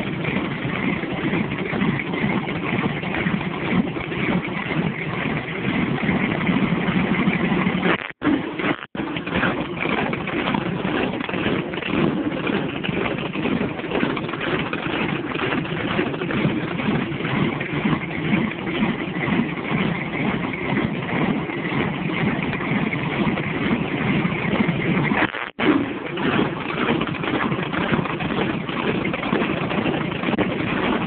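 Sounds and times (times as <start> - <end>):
car engine idling loudly: 0.0 - 31.0.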